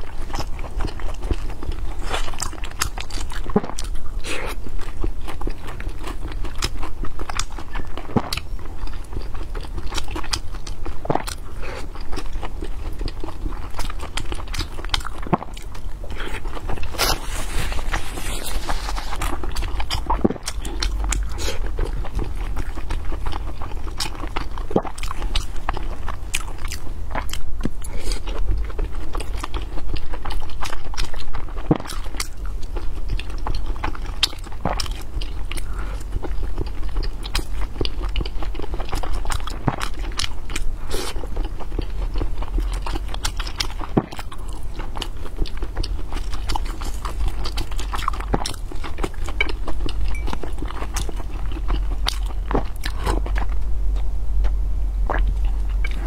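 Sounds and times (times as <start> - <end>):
chewing and biting dumplings: 0.0 - 56.0
steady low hum: 0.0 - 56.0.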